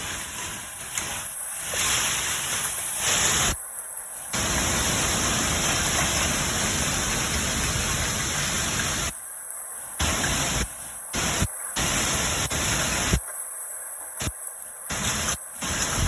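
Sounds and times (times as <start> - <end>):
strong wind and hail: 0.0 - 9.2, 10.0 - 13.3, 14.0 - 16.0.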